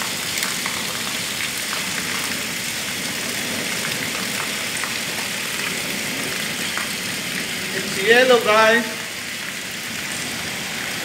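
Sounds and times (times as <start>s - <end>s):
hailstones ticking: 0.0s - 10.4s
heavy rain hissing: 0.9s - 11.0s.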